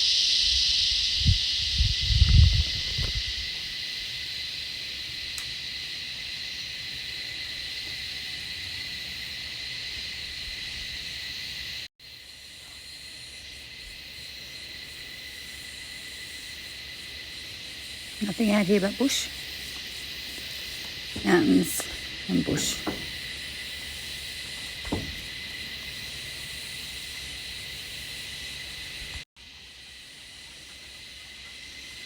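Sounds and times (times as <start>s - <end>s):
cicadas buzzing drone: 0.0s - 32.0s.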